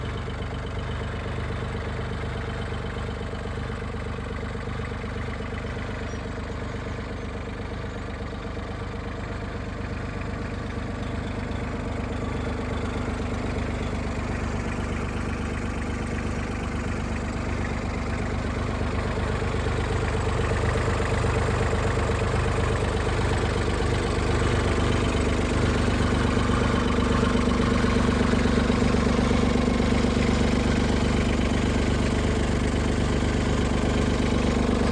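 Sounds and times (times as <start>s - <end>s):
diesel tractor engine running: 0.0s - 34.9s.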